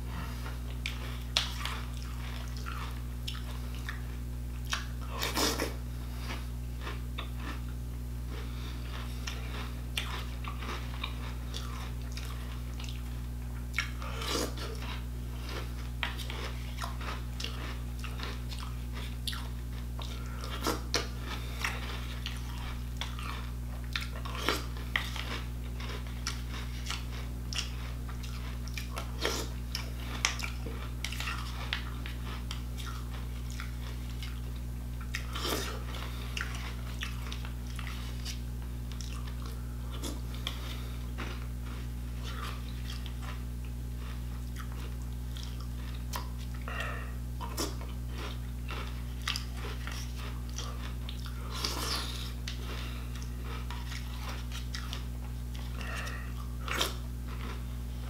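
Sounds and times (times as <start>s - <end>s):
chewing crunchy cereal: 0.1s - 58.0s.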